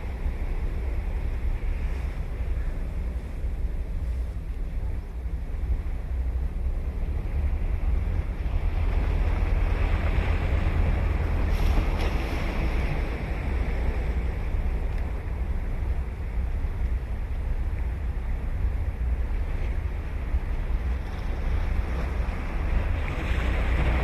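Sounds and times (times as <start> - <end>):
waves breaking on beach: 0.0 - 24.0
wind rumbling on microphone: 0.0 - 24.0.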